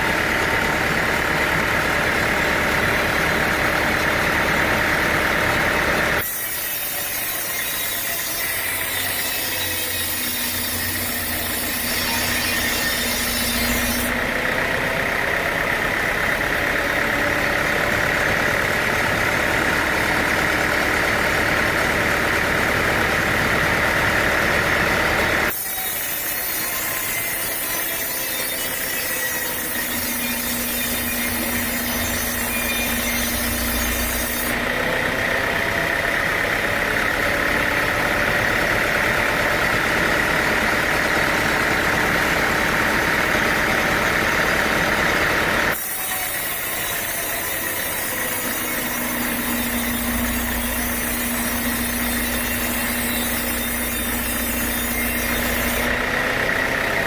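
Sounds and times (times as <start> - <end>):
sawmill machinery drone: 0.0 - 57.0
high machine whine: 8.8 - 56.6.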